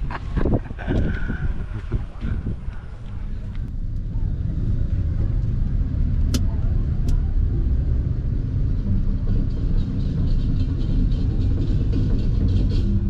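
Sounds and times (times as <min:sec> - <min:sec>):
vehicle rumbling while moving: 0:00.0 - 0:13.0.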